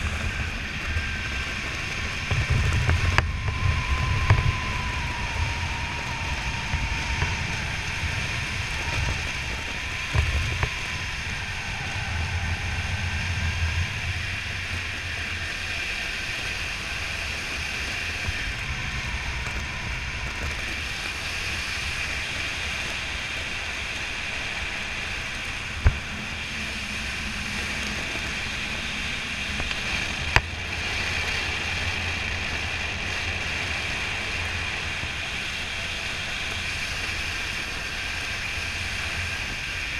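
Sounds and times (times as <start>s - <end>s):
low rumble: 0.0s - 39.9s
wind noise on microphone: 0.0s - 39.9s.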